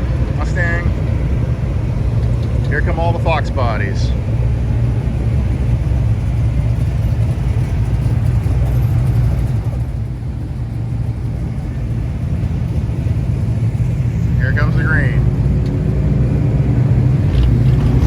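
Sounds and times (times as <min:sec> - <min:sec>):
cars driving slowly past: 0:00.0 - 0:18.0.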